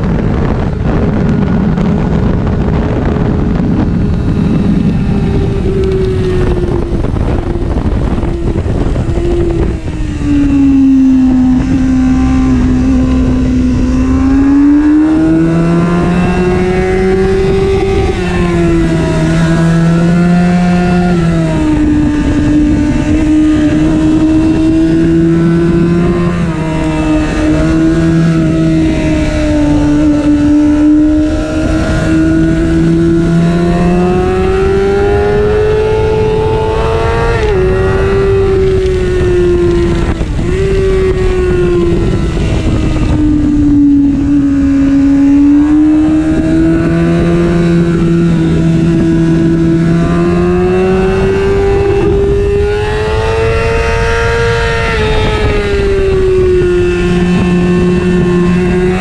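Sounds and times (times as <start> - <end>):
motorcycle engine at speed: 0.0 - 59.0
wind rush: 0.0 - 59.0.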